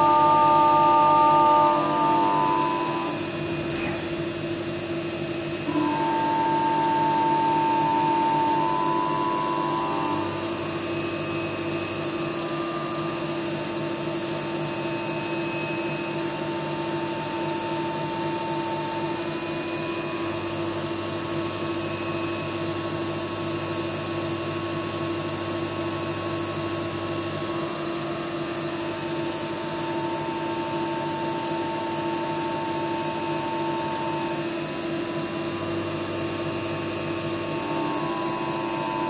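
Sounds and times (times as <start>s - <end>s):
milling machine whine: 0.0s - 39.0s.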